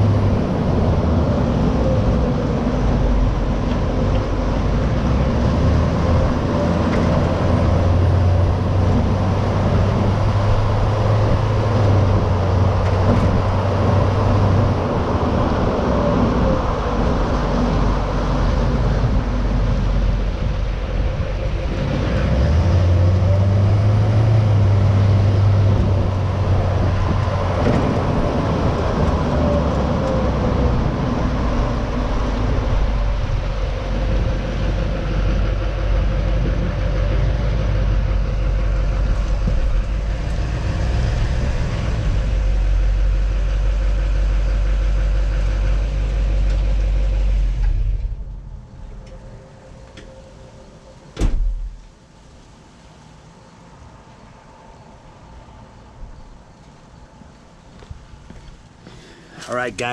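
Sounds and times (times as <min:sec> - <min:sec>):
diesel truck engine running: 0:00.0 - 0:51.5.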